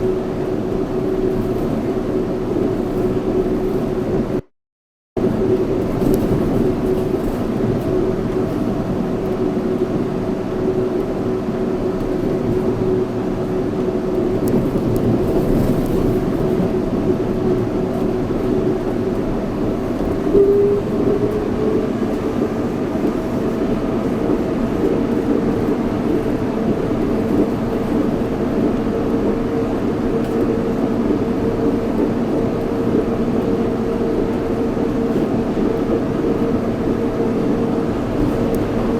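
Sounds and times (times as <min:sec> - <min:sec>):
train rolling noise: 0:00.0 - 0:04.4, 0:05.2 - 0:38.9.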